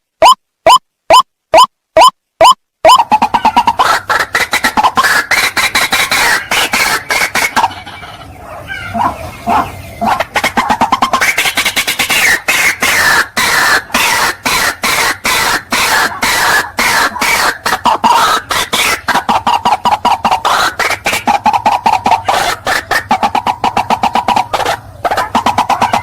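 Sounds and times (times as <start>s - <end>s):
waterhen calling: 0.2s - 26.0s.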